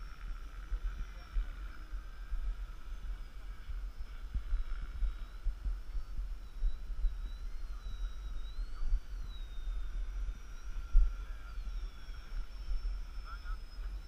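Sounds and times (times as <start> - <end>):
model plane motor whine: 0.0 - 14.0
wind buffeting microphone: 0.0 - 14.0.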